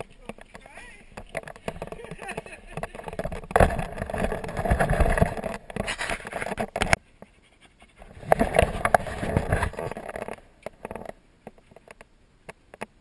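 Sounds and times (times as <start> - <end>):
camera handling rustling and scraping: 0.0 - 7.0, 8.0 - 12.0.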